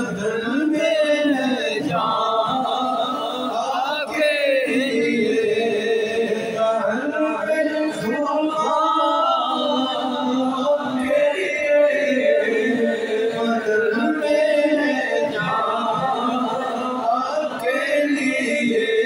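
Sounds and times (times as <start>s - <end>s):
man chanting over pa system: 0.0s - 19.0s.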